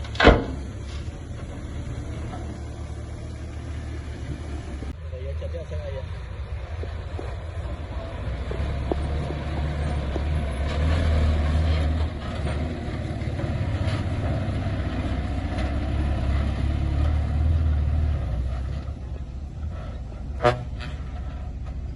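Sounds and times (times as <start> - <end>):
diesel machinery engine rumble: 0.0 - 21.9.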